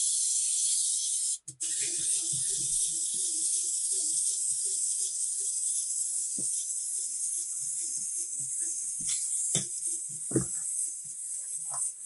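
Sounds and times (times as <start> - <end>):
clockwork motor whirring and ticking: 1.6 - 12.0.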